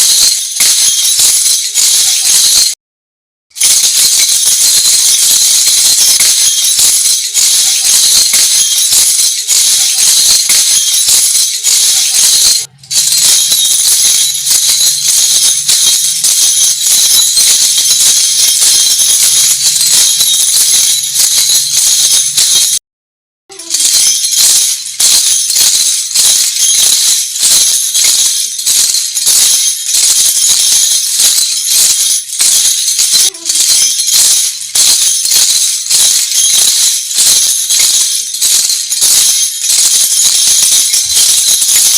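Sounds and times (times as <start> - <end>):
metallic jingles shaken rhythmically: 0.0 - 2.8, 3.5 - 22.8, 23.5 - 41.9.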